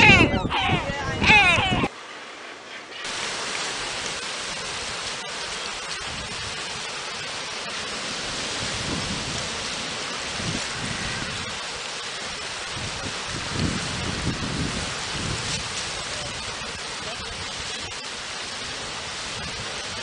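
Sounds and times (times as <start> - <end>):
rain hissing: 1.8 - 20.0.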